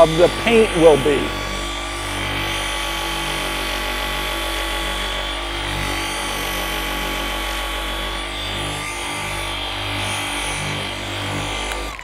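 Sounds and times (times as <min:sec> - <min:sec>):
electric polisher running: 0:00.0 - 0:12.0.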